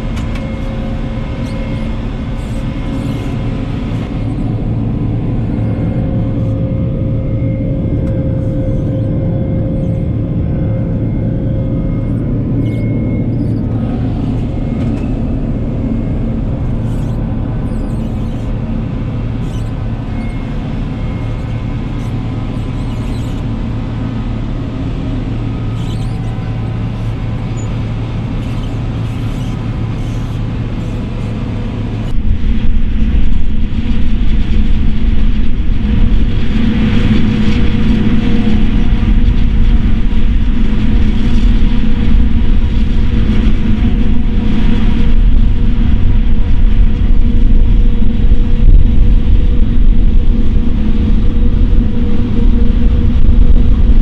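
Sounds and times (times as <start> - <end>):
heavy machinery engine droning: 0.0 - 54.0.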